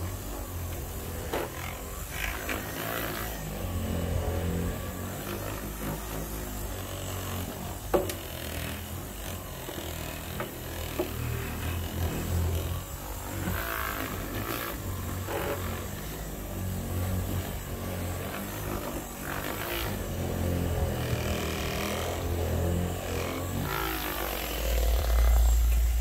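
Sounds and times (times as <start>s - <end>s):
orbital buffer motor humming: 0.0s - 26.0s.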